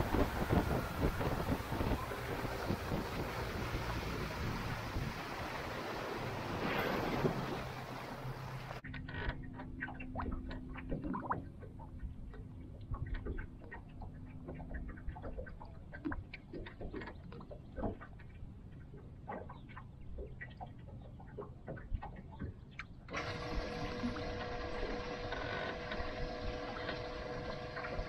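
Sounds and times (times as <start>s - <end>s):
small waves lapping against boat: 0.0s - 28.0s.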